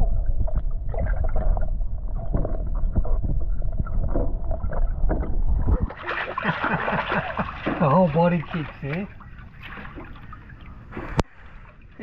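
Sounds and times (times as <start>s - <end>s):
underwater rumble and gurgling: 0.0s - 12.0s
water knocks and sloshes: 0.0s - 12.0s.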